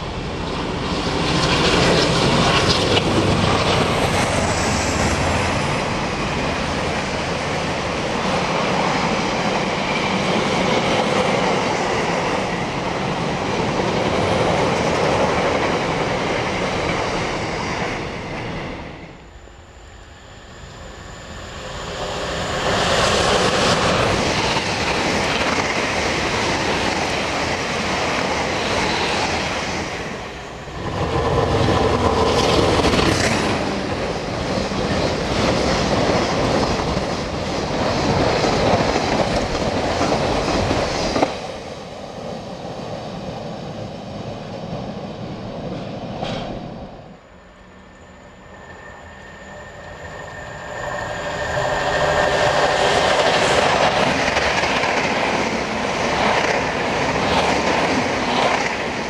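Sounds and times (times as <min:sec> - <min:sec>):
freight train rumbling: 0:00.0 - 0:59.0.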